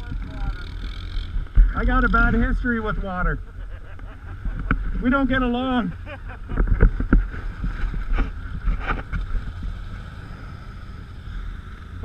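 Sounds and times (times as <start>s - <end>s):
off-road vehicle rumbling: 0.0s - 12.0s.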